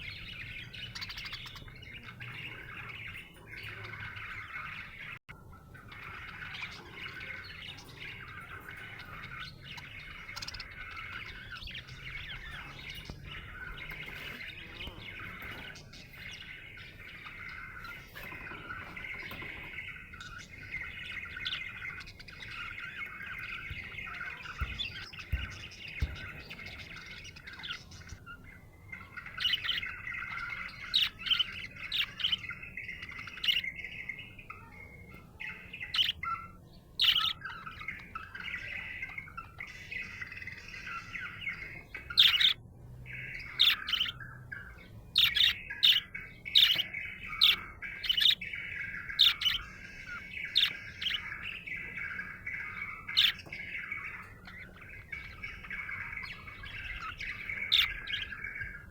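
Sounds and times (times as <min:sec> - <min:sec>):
budgerigar warbling and chattering: 0:00.0 - 0:58.9
sharp bird chirps: 0:00.0 - 0:58.9.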